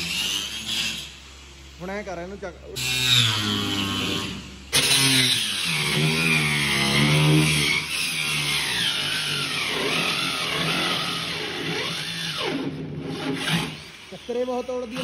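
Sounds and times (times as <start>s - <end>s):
angle grinder cutting plywood: 0.0s - 1.5s, 2.7s - 15.0s.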